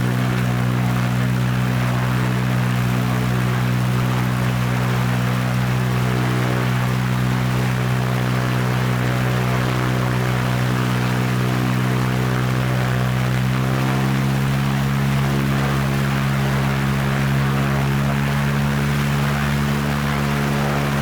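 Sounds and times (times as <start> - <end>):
airplane engine drone: 0.0 - 21.0.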